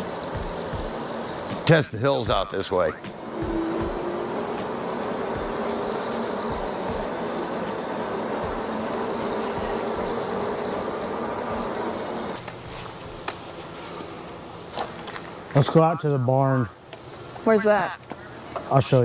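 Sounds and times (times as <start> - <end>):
faint electric motor hum: 0.0 - 19.0.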